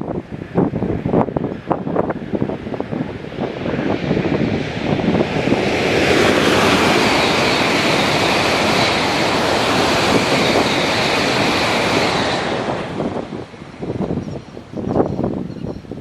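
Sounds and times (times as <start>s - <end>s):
high-speed train rushing past: 0.0s - 16.0s.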